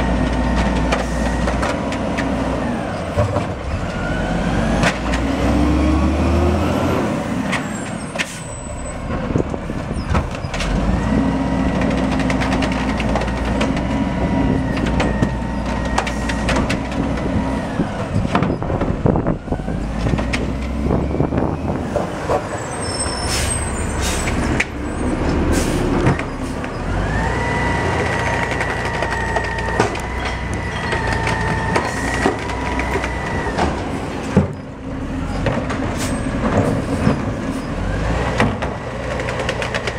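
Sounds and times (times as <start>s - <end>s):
garbage truck diesel engine revving: 0.0s - 8.1s, 8.9s - 39.9s
hydraulic arm dumping cart: 0.1s - 39.9s.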